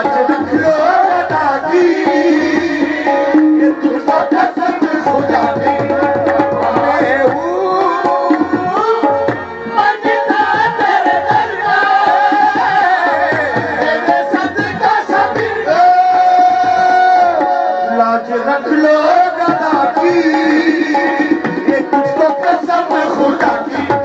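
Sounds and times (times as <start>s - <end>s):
man singing through microphone: 0.0s - 24.0s
tabla drumming: 0.0s - 24.0s.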